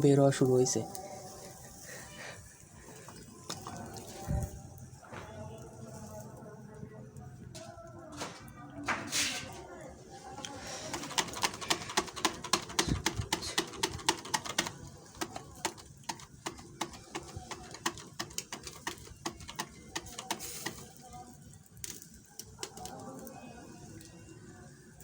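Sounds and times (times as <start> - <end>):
chicken crackling on charcoal grill: 0.0 - 7.1, 9.1 - 25.0.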